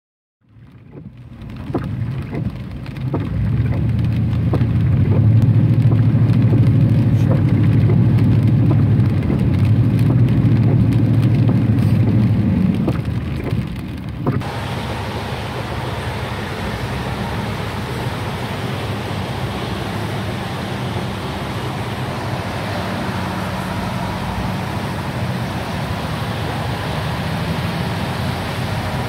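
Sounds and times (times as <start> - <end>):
rain on car roof: 0.4 - 29.0
sharp raindrop ticks: 0.5 - 29.0
tyres driving through water: 0.5 - 29.0.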